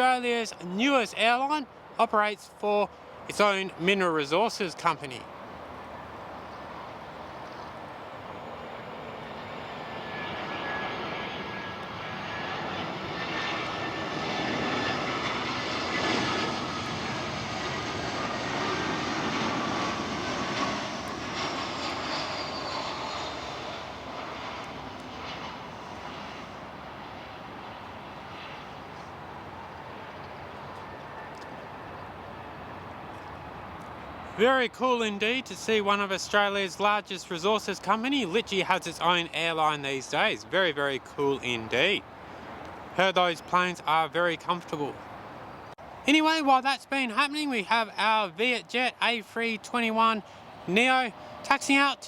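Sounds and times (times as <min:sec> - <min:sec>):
jet airliner passing by: 0:00.0 - 0:52.0
jet engine whine falling in pitch: 0:05.4 - 0:52.0.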